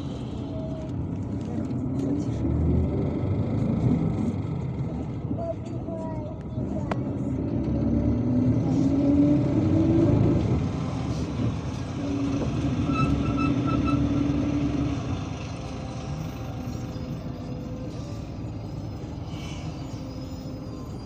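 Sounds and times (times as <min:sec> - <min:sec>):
bus engine accelerating: 0:00.0 - 0:21.0.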